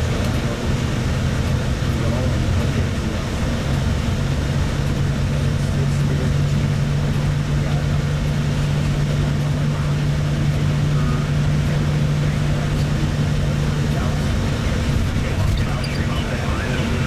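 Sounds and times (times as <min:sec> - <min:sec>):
vehicle engine drone from inside: 0:00.0 - 0:17.0.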